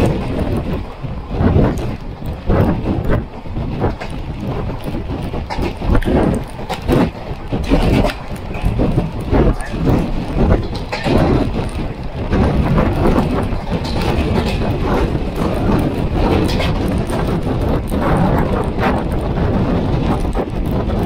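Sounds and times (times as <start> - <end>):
train wheels rumbling on rails: 0.0 - 21.0
wheels clacking over rail joints: 0.0 - 21.0.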